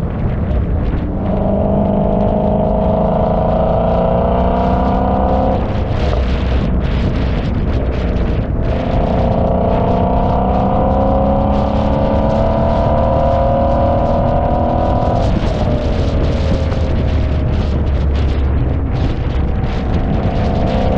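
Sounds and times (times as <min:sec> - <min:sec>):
car engine under load: 0:00.0 - 0:20.9
road and wind noise: 0:00.0 - 0:20.9.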